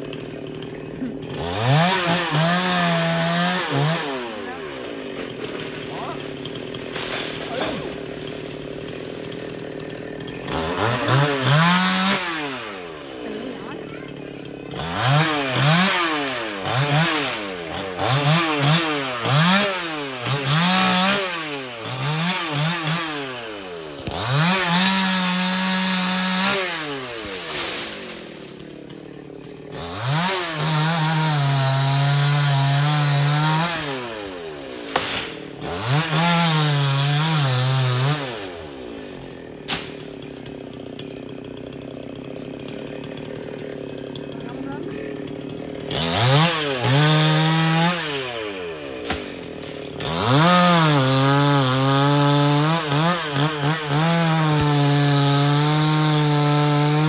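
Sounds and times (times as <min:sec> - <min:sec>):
chainsaw cutting wood: 0:00.0 - 0:57.0
chainsaw engine revving: 0:00.0 - 0:57.0.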